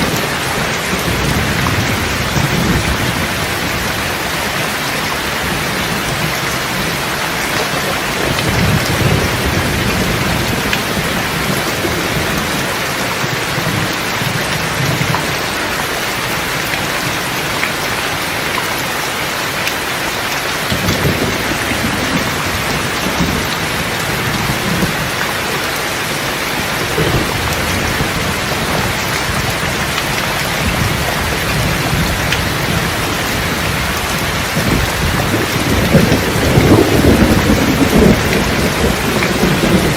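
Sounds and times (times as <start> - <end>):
thunder rumbling: 0.0 - 18.2, 20.6 - 39.9
rain pattering: 0.0 - 39.9.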